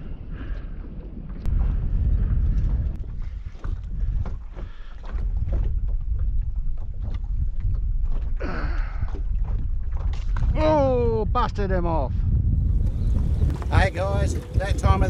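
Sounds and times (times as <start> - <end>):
water slapping boat hull: 0.0 - 11.4, 12.6 - 15.0
wind buffeting microphone: 0.0 - 15.0.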